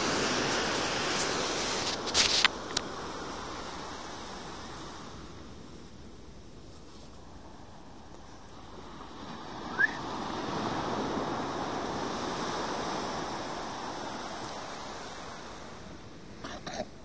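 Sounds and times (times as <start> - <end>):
surf washing on sandy beach: 0.0 - 17.0.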